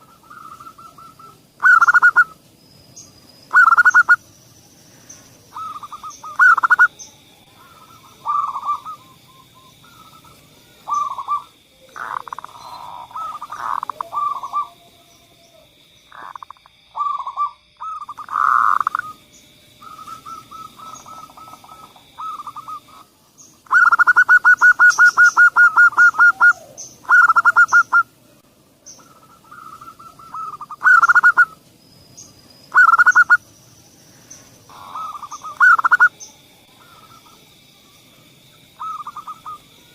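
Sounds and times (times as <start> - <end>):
doves cooing: 0.0 - 2.4, 3.0 - 4.3, 5.0 - 28.2, 28.9 - 31.6, 32.7 - 33.5, 34.2 - 37.6, 38.6 - 39.9.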